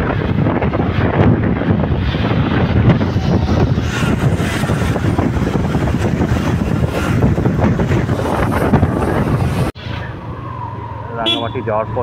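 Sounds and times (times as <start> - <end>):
wind on microphone: 0.0 - 9.8
road noise: 0.0 - 12.0.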